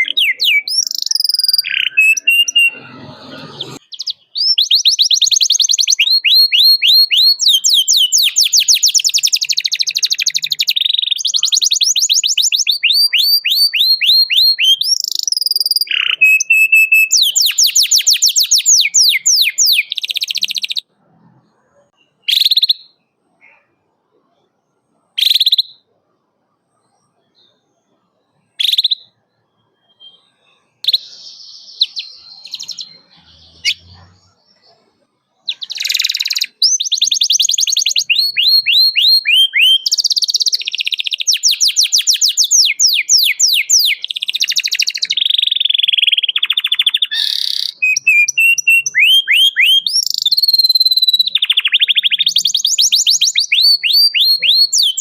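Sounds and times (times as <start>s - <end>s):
canary singing: 0.0s - 23.6s, 28.6s - 55.0s.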